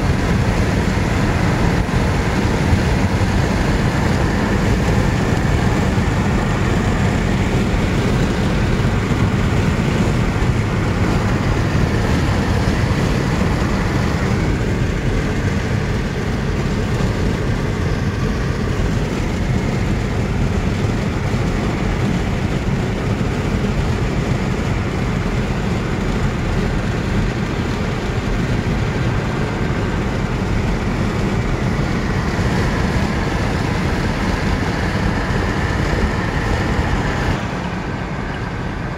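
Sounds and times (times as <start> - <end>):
car road and wind noise: 0.0 - 38.9.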